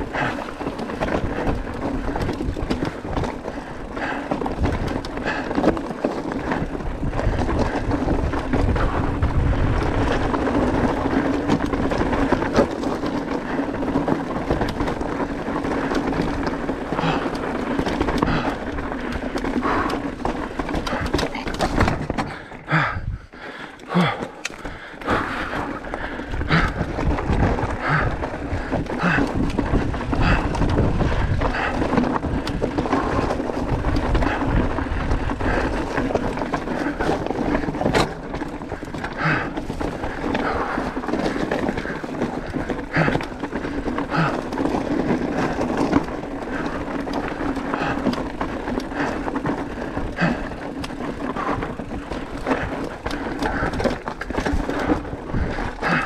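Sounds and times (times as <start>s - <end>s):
bike frame knocking and rattling: 0.0s - 56.0s
bike tyres over loose gravel: 0.0s - 56.0s.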